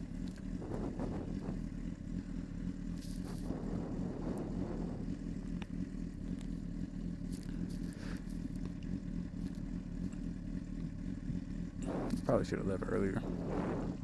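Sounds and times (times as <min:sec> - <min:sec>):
motorcycle engine drone: 0:00.0 - 0:14.0.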